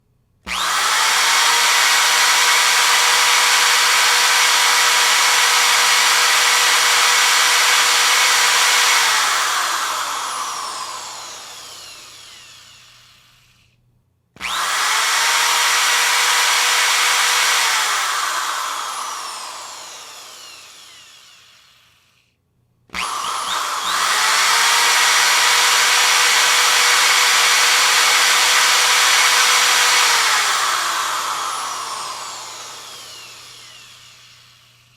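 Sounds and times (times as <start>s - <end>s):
power drill whirring: 0.5s - 13.8s, 14.4s - 34.9s.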